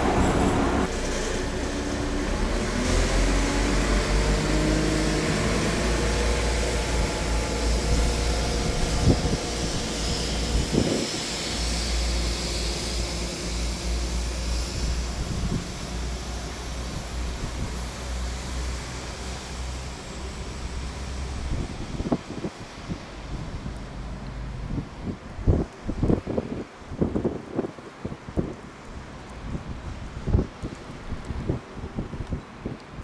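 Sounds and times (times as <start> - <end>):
train diesel engine drone: 0.0 - 26.6.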